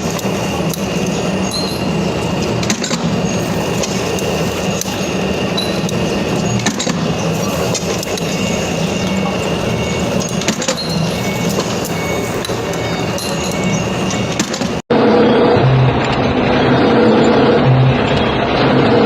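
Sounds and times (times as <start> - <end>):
heavy machine engine humming: 0.0 - 19.0.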